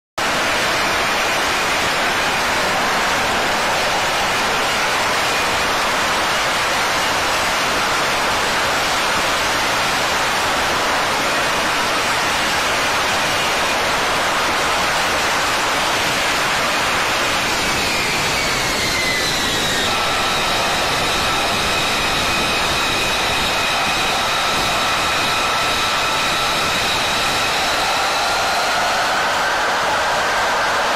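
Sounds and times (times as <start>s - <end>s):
jet engine roaring: 0.2s - 30.9s.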